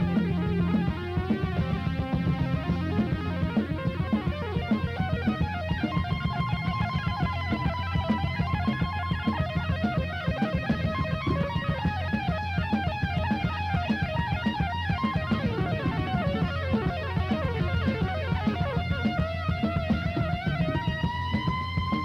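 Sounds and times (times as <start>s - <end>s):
distorted electric guitar: 0.0s - 22.0s
fast driving drums: 0.0s - 22.0s
heavy metal band playing: 0.0s - 22.0s.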